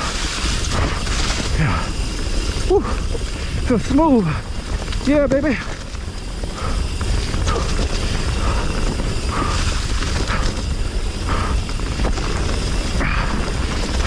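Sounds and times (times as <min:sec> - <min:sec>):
chain and frame rattling: 0:00.0 - 0:14.0
freewheel ratchet buzzing: 0:00.0 - 0:14.0
wind rumble on microphone: 0:00.0 - 0:14.0.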